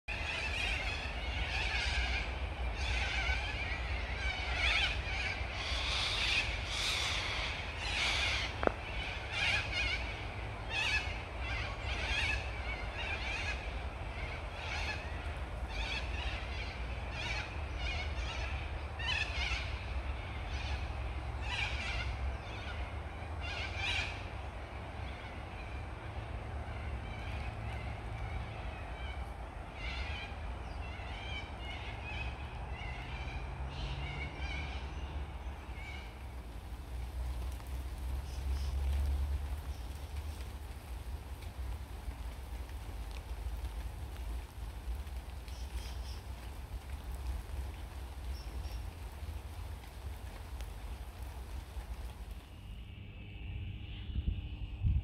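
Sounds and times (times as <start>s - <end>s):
birds calling: 0.1s - 52.4s
steady low rumble: 0.1s - 55.0s.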